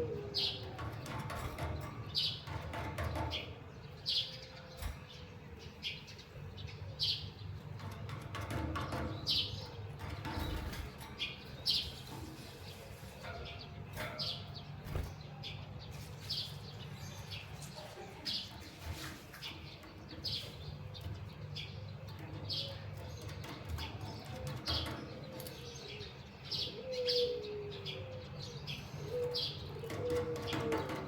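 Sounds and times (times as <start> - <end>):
cage birds chirping: 0.0 - 31.0.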